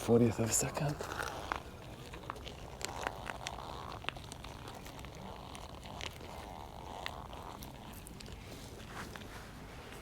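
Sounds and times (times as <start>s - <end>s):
faint rustling: 0.5s - 10.0s.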